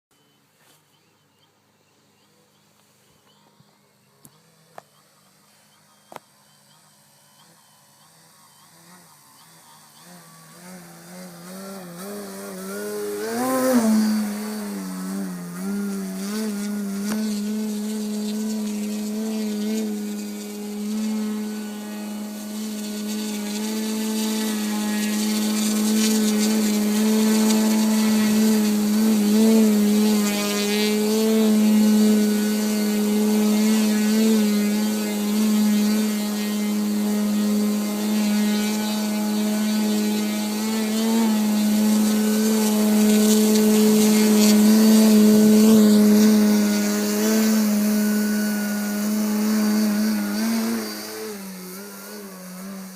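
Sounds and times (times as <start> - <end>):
model plane motor buzzing: 2.3 - 52.9.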